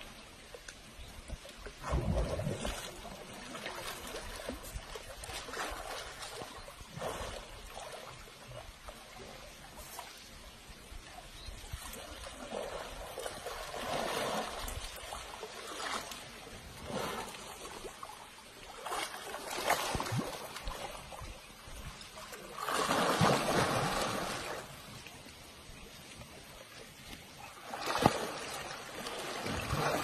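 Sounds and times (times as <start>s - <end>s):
water sloshing and splashing: 1.4s - 10.4s, 11.6s - 30.0s.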